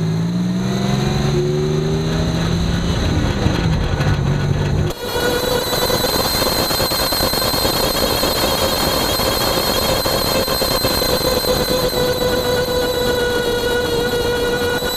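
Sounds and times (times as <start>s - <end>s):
road and wind rush: 0.0s - 14.9s
axle whine: 0.8s - 14.9s.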